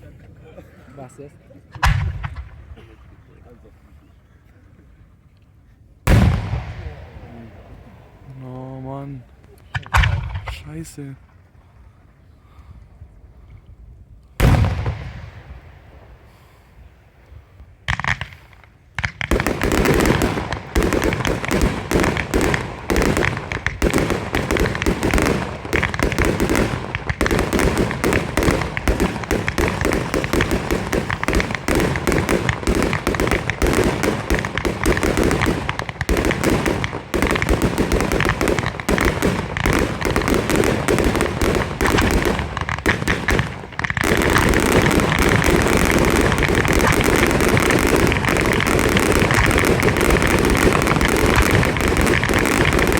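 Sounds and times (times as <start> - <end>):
fireworks bursts: 1.8 - 2.8, 6.1 - 11.2, 14.4 - 52.9.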